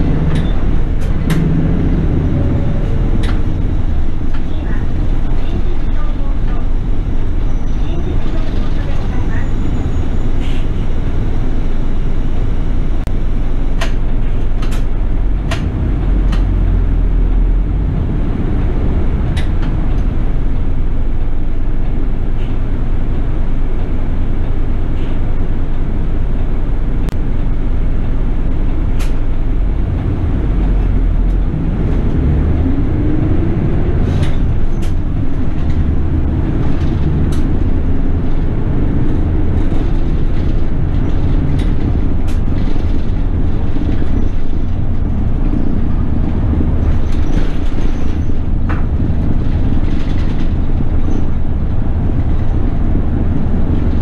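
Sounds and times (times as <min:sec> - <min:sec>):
bus engine running: 0:00.0 - 0:54.0
low road noise rumble: 0:00.0 - 0:54.0.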